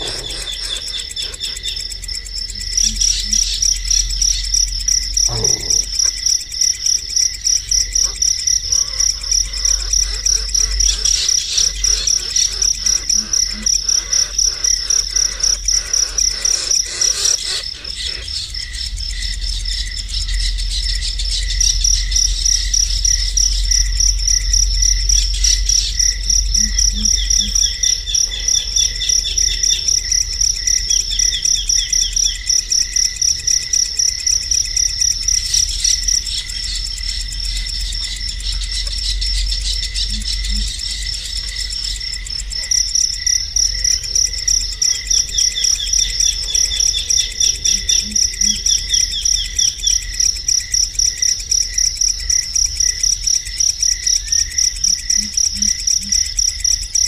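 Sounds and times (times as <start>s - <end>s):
insect chirping: 0.0s - 57.0s.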